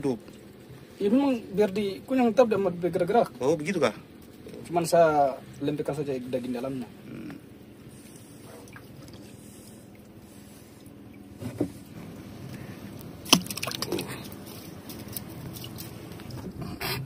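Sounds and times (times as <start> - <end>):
boat engine hum: 0.0 - 17.0.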